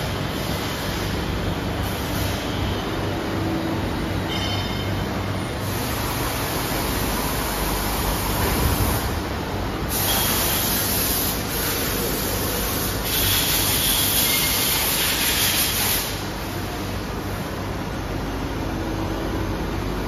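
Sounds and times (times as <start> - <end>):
machine lathes hiss and rumble: 0.0 - 20.0.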